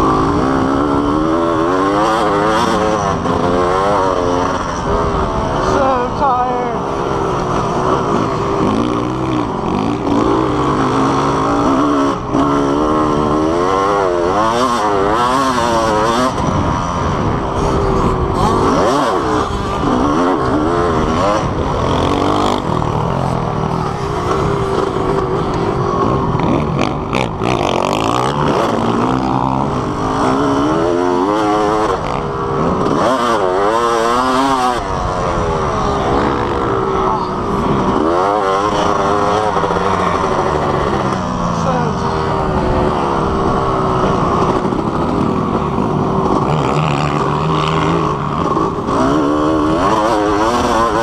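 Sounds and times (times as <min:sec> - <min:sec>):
dirt bike engine revving: 0:00.0 - 0:51.0
wind noise: 0:00.0 - 0:51.0.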